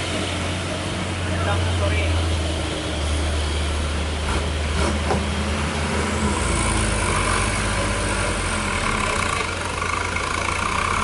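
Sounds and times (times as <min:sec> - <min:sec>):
heavy truck engine running: 0:00.0 - 0:11.0.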